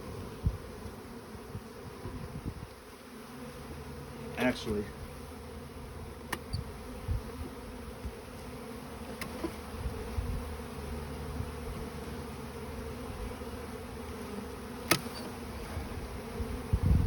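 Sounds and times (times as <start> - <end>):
bee swarm buzzing: 0.0 - 17.0.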